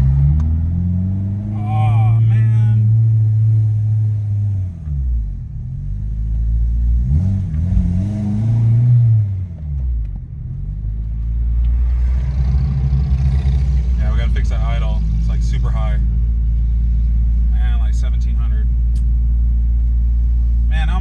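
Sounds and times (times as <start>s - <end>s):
car engine idling: 0.0s - 7.7s, 9.4s - 21.0s.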